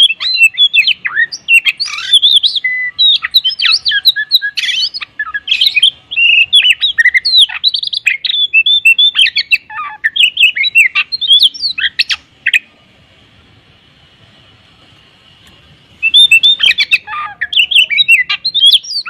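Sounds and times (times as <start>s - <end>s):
bird singing whistled song: 0.0s - 12.7s, 16.0s - 19.0s.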